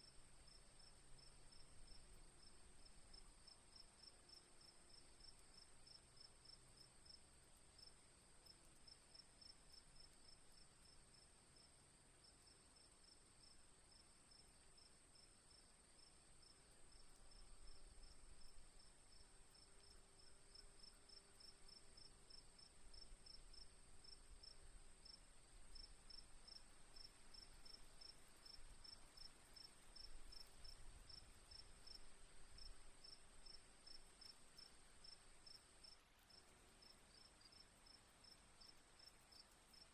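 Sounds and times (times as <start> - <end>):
faint crickets chirping: 0.0 - 39.9.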